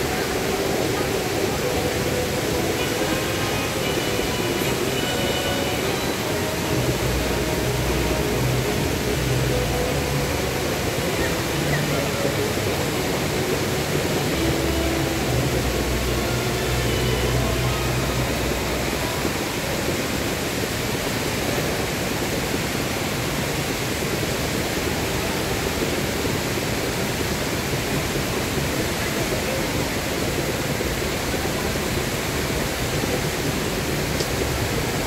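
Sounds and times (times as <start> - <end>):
indoor waterfall rushing: 0.0 - 35.0.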